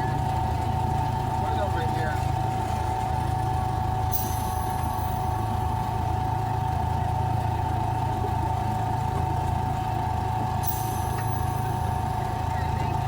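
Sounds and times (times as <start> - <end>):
miniature train engine hum: 0.0 - 13.0.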